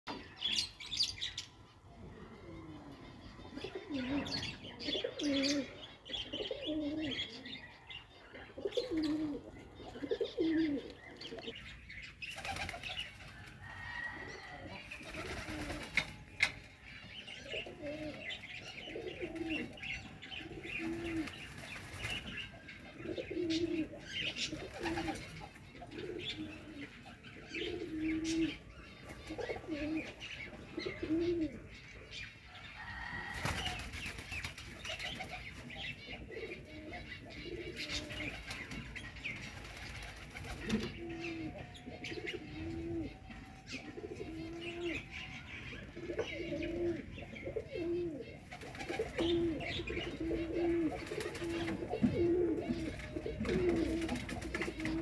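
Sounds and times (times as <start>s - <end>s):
pigeons cooing: 0.1s - 55.0s
small birds chirping: 0.1s - 55.0s.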